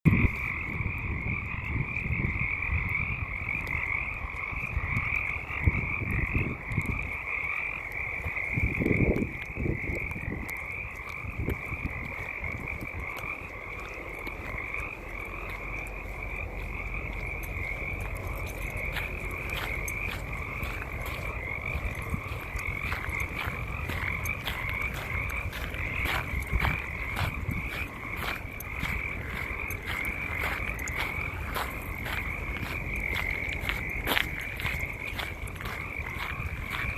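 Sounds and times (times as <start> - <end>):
frogs calling: 0.1 - 36.9.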